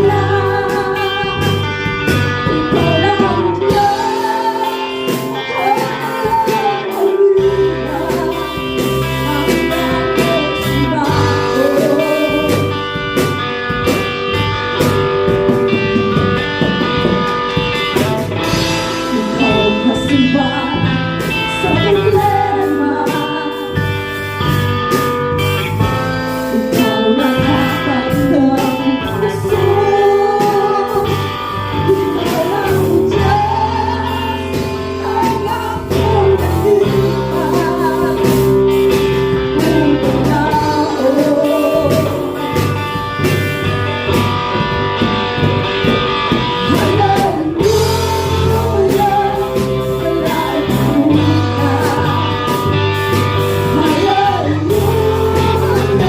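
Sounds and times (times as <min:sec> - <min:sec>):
person singing: 0:00.0 - 0:13.4, 0:18.4 - 0:24.6, 0:25.8 - 0:43.6, 0:45.4 - 0:56.0
guitar: 0:00.0 - 0:56.0
steady drum beat: 0:00.0 - 0:56.0.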